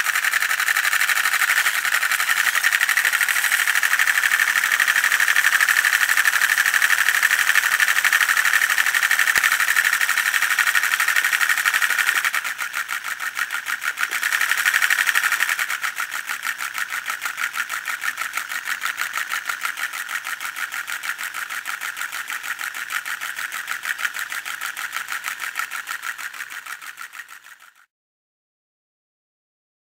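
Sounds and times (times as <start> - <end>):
plastic model engine clatter: 0.0 - 27.9.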